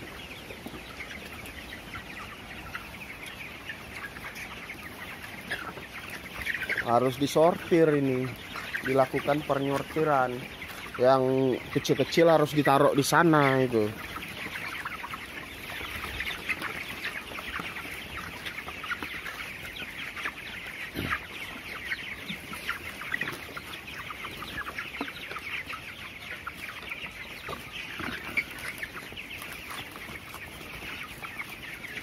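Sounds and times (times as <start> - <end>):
chickens peeping and clucking: 0.0 - 32.0.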